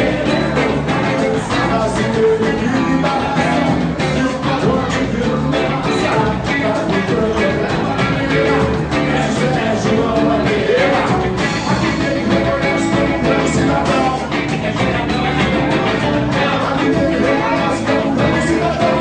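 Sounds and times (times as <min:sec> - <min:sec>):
band playing upbeat music: 0:00.0 - 0:19.0
person singing: 0:00.0 - 0:19.0.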